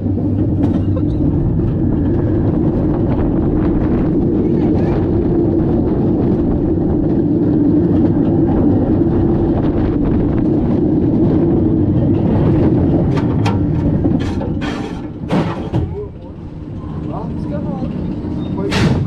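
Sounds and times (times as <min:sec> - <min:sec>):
roller coaster wheels rumbling: 0:00.0 - 0:19.0.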